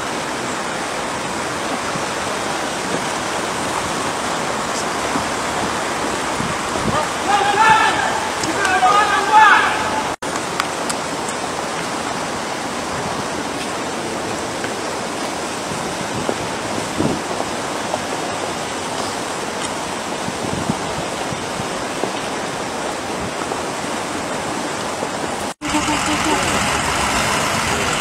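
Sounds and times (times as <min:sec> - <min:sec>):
steady rushing background noise: 0:00.0 - 0:28.0.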